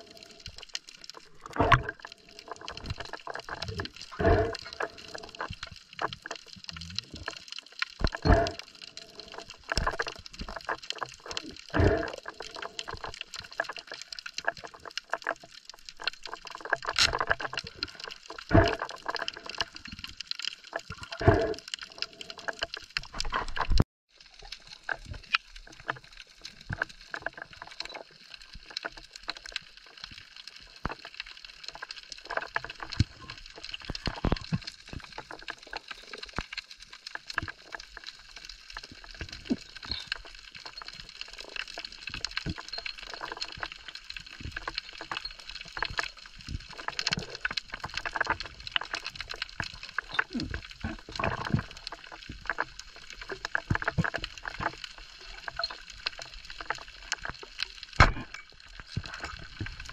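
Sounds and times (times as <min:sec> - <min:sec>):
faint crackling clicks: 0:00.0 - 0:59.9
water sloshing and gurgling underwater: 0:00.0 - 0:59.9.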